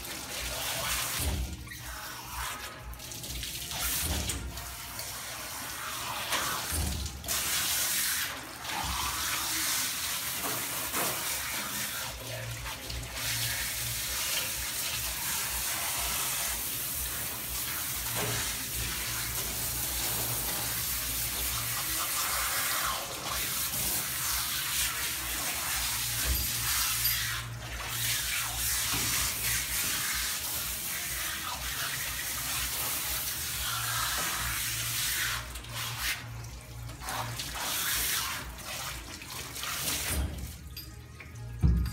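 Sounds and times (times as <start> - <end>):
water spraying on dog's coat: 0.0 - 40.7.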